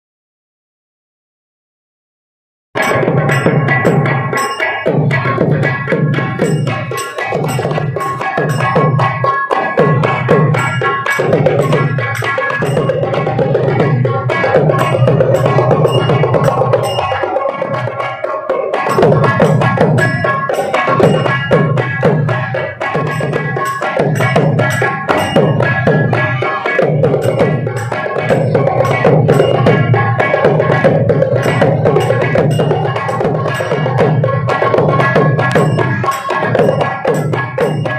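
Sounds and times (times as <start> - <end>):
steady ringing tone: 2.8 - 37.9.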